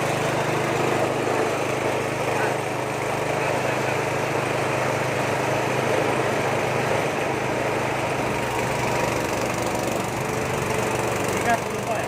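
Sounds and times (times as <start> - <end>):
grinding mill: 0.0 - 12.0
small engine running: 0.0 - 12.0.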